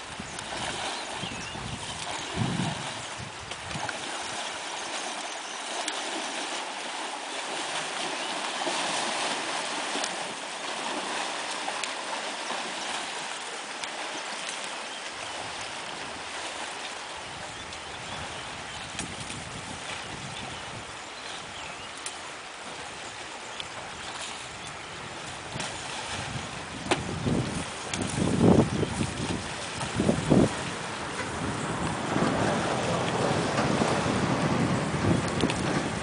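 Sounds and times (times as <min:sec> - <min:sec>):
elephants splashing in water: 0:00.0 - 0:20.3, 0:22.5 - 0:36.0
flowing river water: 0:00.0 - 0:36.0.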